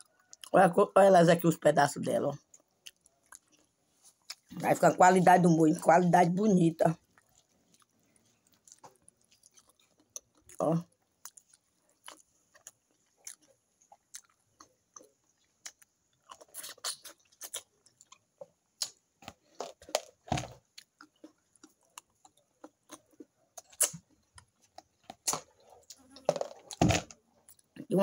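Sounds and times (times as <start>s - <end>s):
person chewing: 2.4s - 4.8s, 7.0s - 27.8s.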